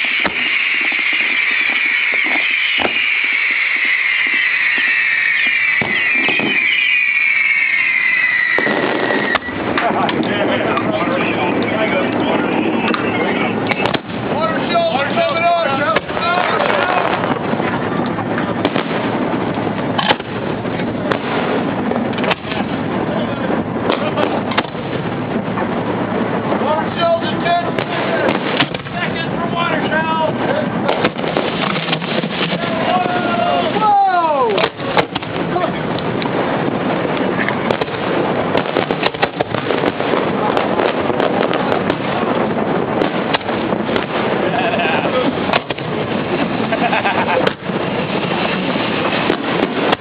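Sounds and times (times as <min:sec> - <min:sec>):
fireworks crackling and rumbling: 0:00.0 - 0:50.0
fireworks sharp bangs: 0:00.0 - 0:50.0.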